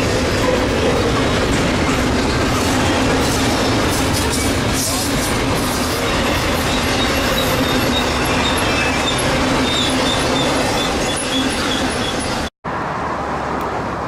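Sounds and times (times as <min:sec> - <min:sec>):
steel wheels rumbling on rail: 0:00.0 - 0:12.5
high wheel squeals: 0:00.4 - 0:12.5.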